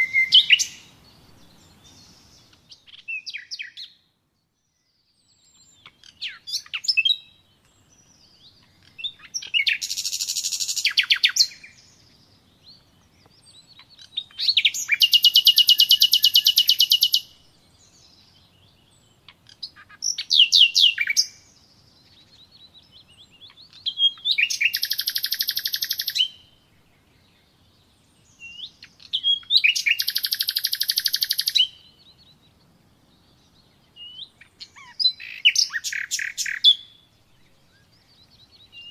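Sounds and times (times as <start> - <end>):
songbird singing with trills: 0.0 - 38.9.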